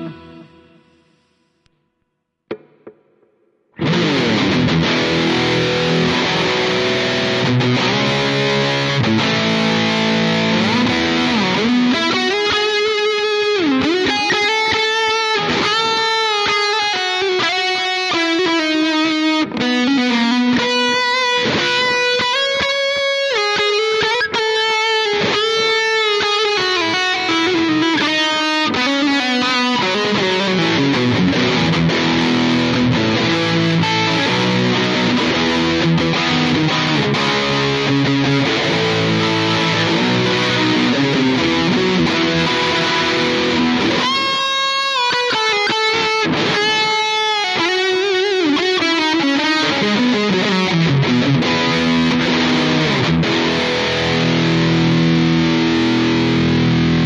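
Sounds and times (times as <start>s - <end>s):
electric guitar lead: 0.0s - 1.9s, 2.5s - 57.0s.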